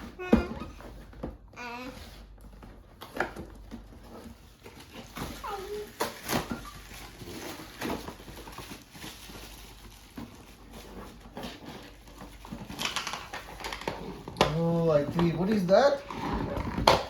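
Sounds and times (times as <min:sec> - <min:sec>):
crinkling rustle: 0:00.2 - 0:16.8
packaging rustling: 0:02.1 - 0:17.0.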